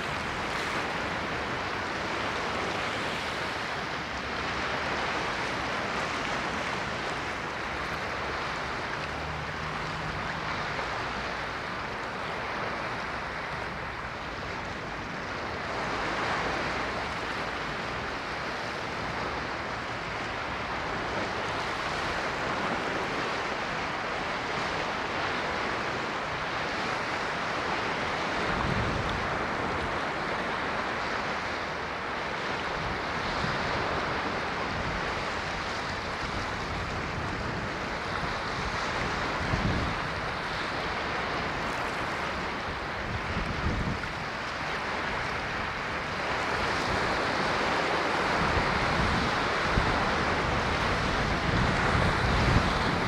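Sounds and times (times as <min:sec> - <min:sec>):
ocean waves washing on shore: 0:00.0 - 0:53.0.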